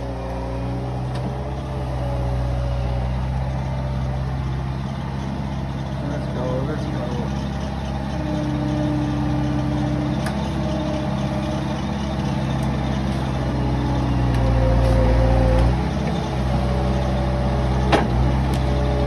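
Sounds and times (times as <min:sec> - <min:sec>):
loader engine working under load: 0:00.0 - 0:19.0.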